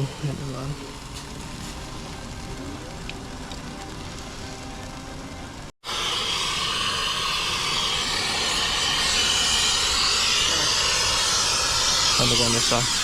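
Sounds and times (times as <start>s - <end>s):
brazing torch flame hissing: 0.0s - 4.6s, 5.8s - 13.0s.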